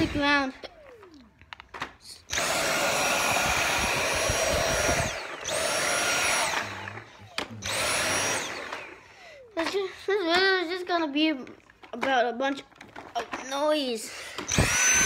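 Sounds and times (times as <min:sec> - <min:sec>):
stick vacuum motor whining: 0:00.0 - 0:15.0.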